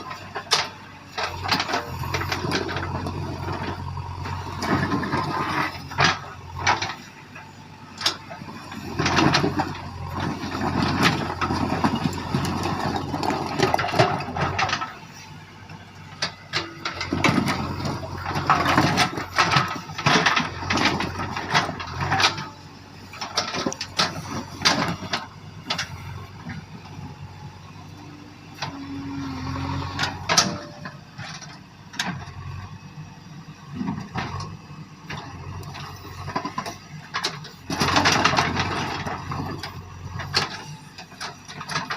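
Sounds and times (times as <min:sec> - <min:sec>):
clanks and knocks of stones: 0:00.0 - 0:15.0, 0:16.2 - 0:27.2, 0:33.7 - 0:41.9
diesel engine running: 0:00.0 - 0:41.9.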